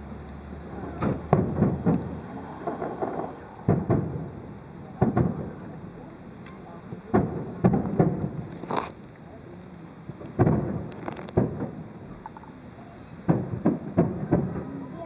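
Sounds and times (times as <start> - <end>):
distant firework shells booming: 0.6 - 15.0.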